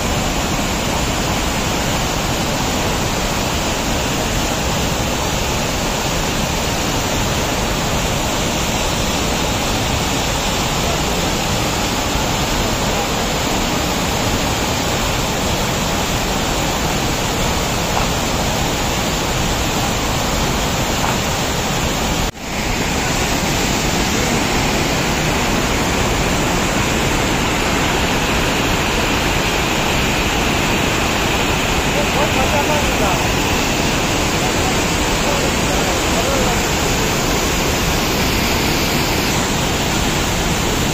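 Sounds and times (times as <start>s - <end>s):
river rapids and waterfall rushing: 0.0s - 40.9s.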